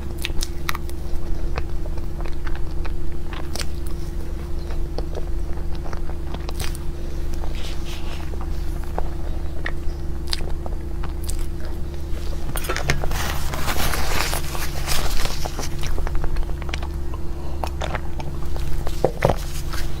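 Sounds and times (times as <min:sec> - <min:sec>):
low electrical hum: 0:00.0 - 0:20.0
person chewing cake: 0:00.0 - 0:20.0.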